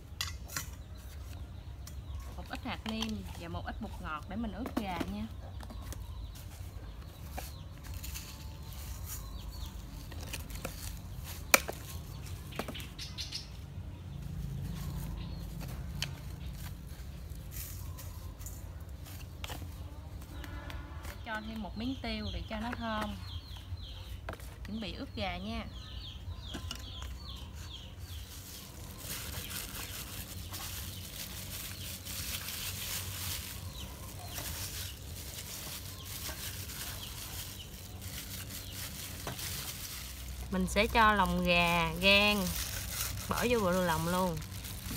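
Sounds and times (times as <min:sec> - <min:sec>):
low outdoor background: 0:00.0 - 0:44.9.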